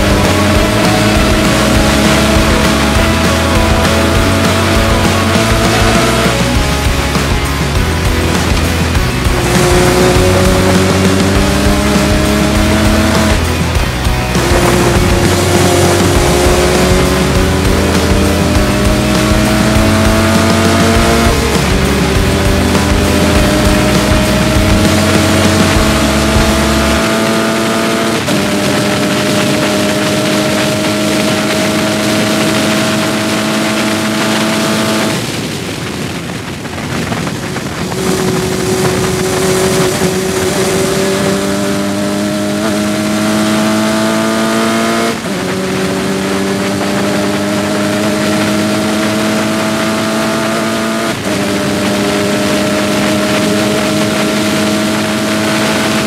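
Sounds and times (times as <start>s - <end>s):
race car engine revving: 0.0s - 56.0s
wind rush: 0.0s - 56.0s.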